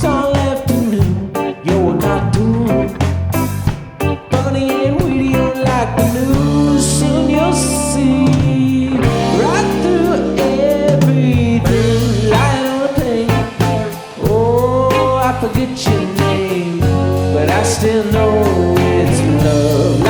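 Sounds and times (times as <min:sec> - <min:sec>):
bass guitar: 0:00.0 - 0:20.0
drum kit: 0:00.0 - 0:20.0
electric guitar with bent notes: 0:00.0 - 0:20.0.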